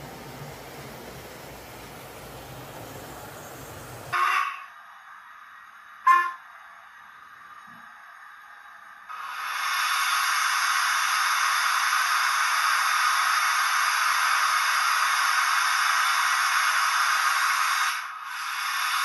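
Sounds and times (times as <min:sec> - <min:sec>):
steady steam hiss: 0:00.0 - 0:19.0.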